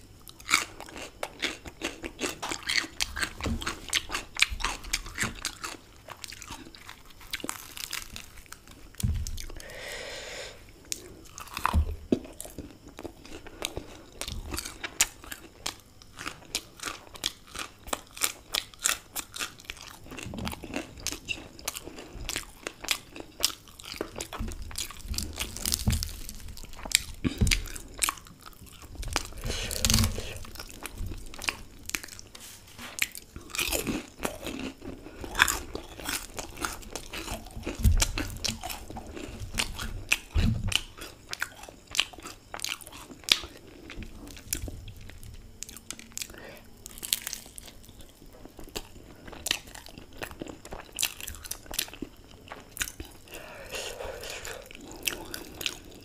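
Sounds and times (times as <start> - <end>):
crunchy pastry chewing: 0.0 - 9.7, 10.7 - 56.0.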